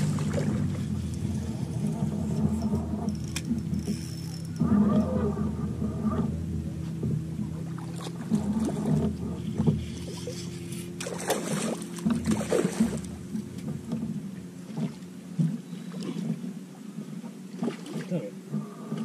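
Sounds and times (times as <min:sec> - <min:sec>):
boat low hum: 0:00.0 - 0:19.0
water splashing: 0:00.0 - 0:19.0.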